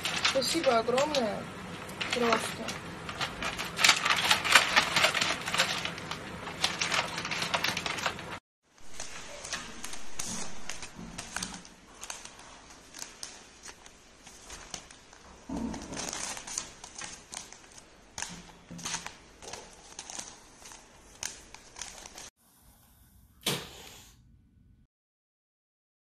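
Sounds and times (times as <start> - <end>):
newspaper crinkling under cat: 0.0 - 1.1, 1.9 - 22.3.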